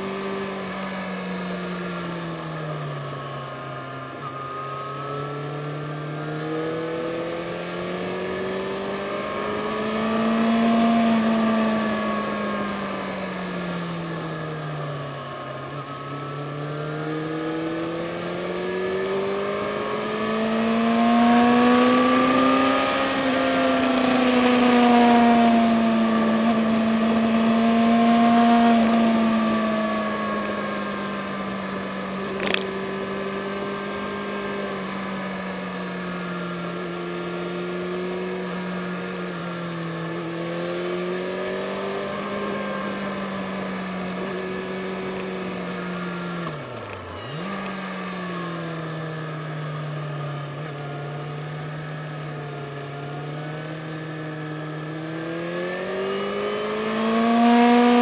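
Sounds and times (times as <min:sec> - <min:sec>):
motorcycle engine revving: 0:00.0 - 0:58.0
road noise: 0:00.0 - 0:58.0.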